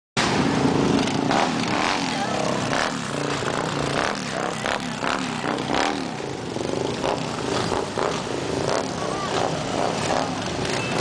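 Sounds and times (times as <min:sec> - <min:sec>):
motorcycle engines revving: 0:00.2 - 0:11.0.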